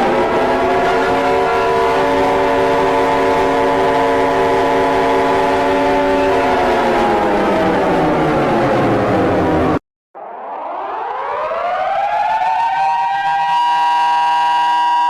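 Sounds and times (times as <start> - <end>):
emergency alert siren: 0.0 - 15.0.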